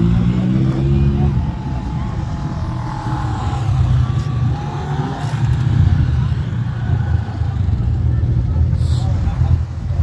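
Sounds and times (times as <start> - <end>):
engines rumbling: 0.0 - 10.0.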